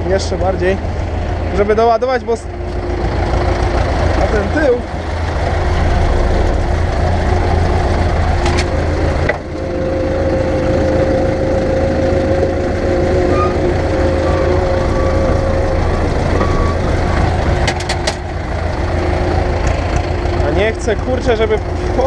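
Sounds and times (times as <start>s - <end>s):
steady whine: 0.0s - 22.0s
tractor diesel engine running: 0.0s - 22.0s.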